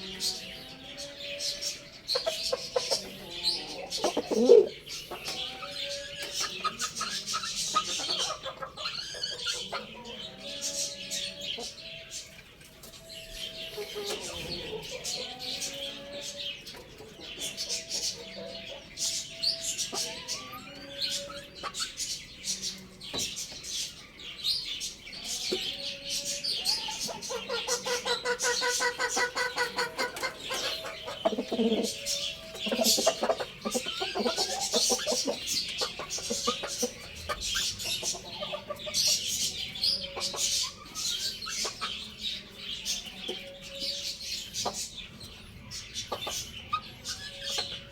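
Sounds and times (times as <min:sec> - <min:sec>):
small birds chirping: 0:00.0 - 0:47.9
fowl clucking: 0:01.2 - 0:11.9, 0:13.5 - 0:23.6, 0:25.2 - 0:45.0, 0:46.0 - 0:47.9.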